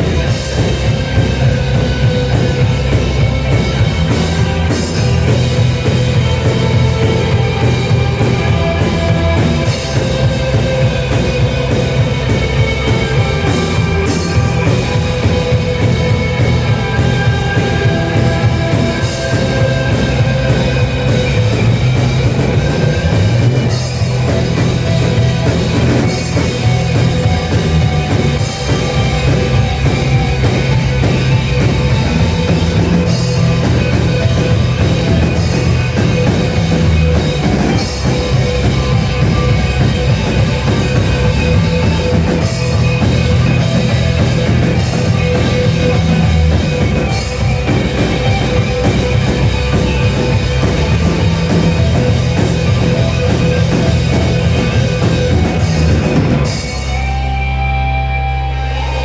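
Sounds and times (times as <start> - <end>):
drum kit: 0.0 - 59.0
rock band playing: 0.0 - 59.0.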